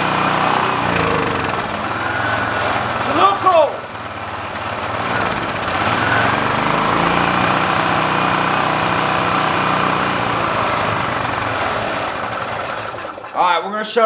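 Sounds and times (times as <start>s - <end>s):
generator engine running: 0.0s - 13.8s.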